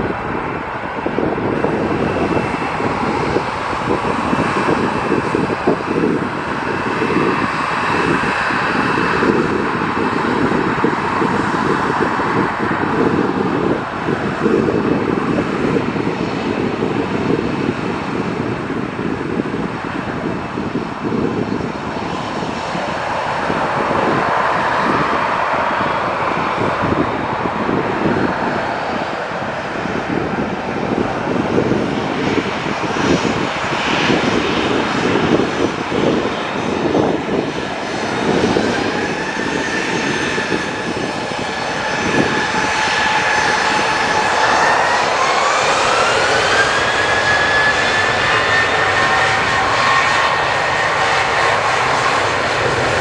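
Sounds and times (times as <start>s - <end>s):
jet engine rumble: 0.0s - 53.0s
jet engine whine: 0.0s - 53.0s.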